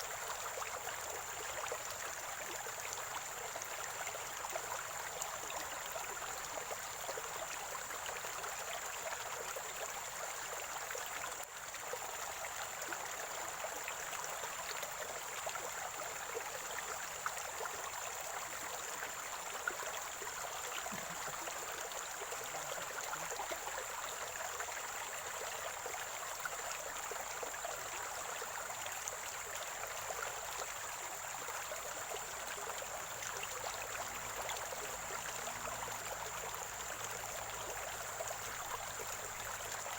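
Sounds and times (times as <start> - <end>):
stream flowing and gurgling: 0.0 - 39.9.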